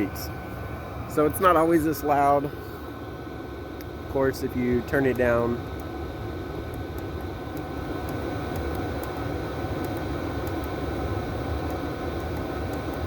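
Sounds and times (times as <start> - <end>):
diesel heater roaring: 0.0 - 13.0.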